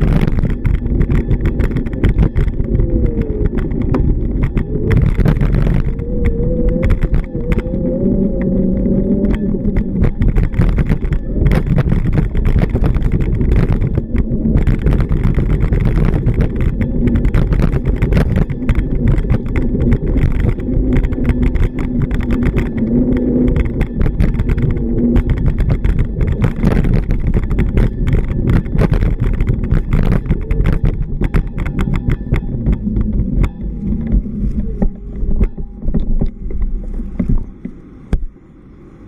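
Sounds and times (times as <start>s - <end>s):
sharp clicks and knocks: 0.0s - 38.3s
vehicle engine running: 0.0s - 38.7s
traffic rumble: 0.0s - 39.0s.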